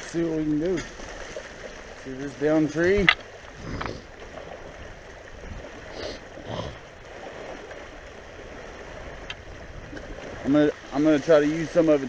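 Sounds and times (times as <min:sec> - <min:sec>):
waves lapping on rocky shore: 0:00.0 - 0:12.0.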